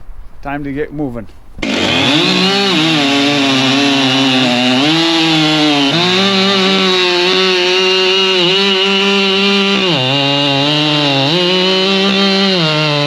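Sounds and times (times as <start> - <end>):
chainsaw cutting wood: 1.6 - 13.0.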